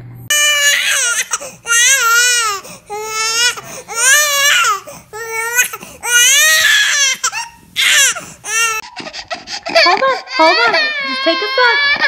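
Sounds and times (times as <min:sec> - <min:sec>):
baby crying: 0:00.3 - 0:12.0.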